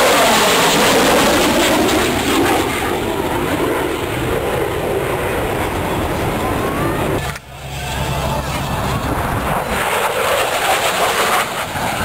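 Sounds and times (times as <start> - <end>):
airplane flying overhead: 0.0 - 12.0.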